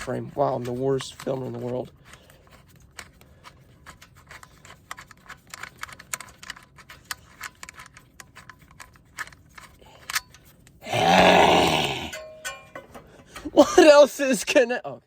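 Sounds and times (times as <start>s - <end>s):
hands working on mower parts: 0.0s - 14.6s.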